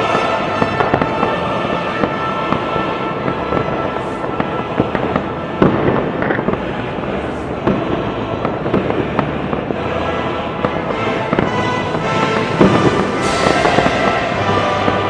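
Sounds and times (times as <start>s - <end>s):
loud firework booms: 0.0s - 9.8s, 10.6s - 15.0s
fireworks crackling: 0.0s - 15.0s.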